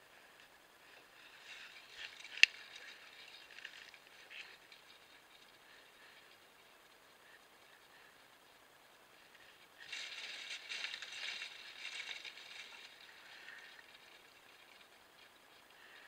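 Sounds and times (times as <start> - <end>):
microphone hiss: 0.0 - 16.0
bear rustling in dry grass: 0.3 - 8.1, 9.1 - 16.0.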